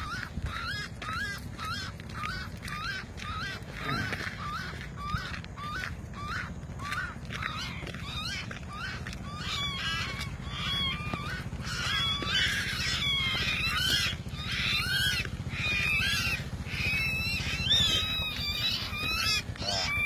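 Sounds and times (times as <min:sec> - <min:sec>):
birds squawking and chirping: 0:00.0 - 0:20.0
steady low hum: 0:00.0 - 0:20.0.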